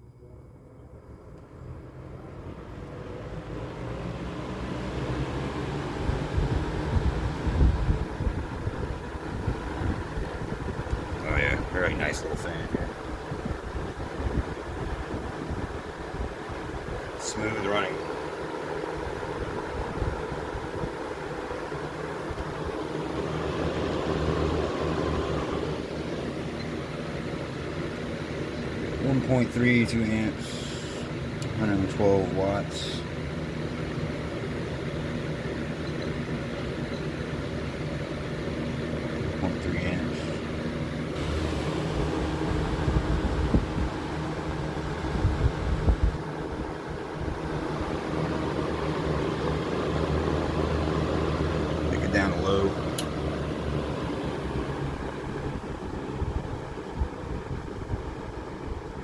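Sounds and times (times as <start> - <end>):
low motor hum: 0.0 - 59.0
box fan air rushing: 2.4 - 59.0.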